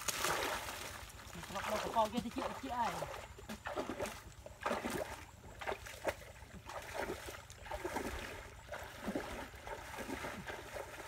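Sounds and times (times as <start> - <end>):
footsteps splashing in muddy water: 0.0 - 11.0.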